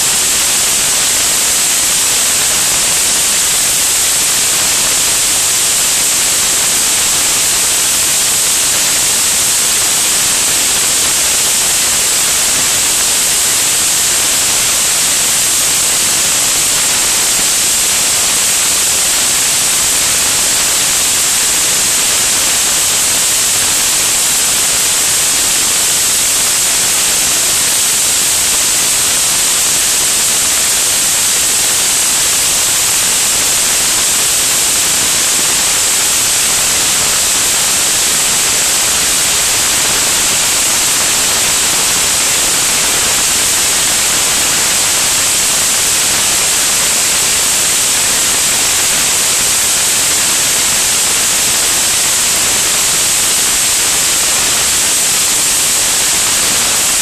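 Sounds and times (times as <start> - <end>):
rushing airflow hiss: 0.0 - 57.0.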